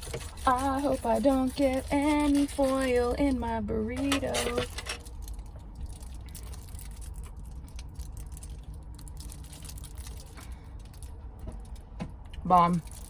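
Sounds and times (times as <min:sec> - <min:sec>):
foil crinkling: 0:00.0 - 0:11.8
low steady rumble: 0:00.0 - 0:13.0.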